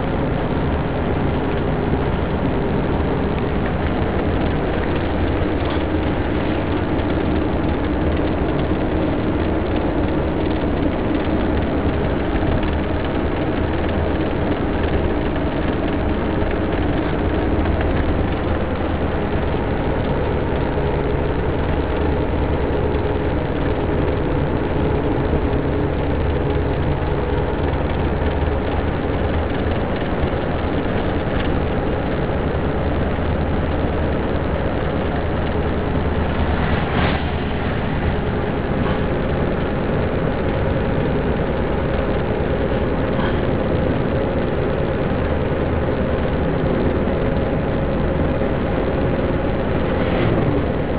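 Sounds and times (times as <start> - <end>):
car engine hum: 0.0 - 50.9
road and wind noise: 0.0 - 50.9.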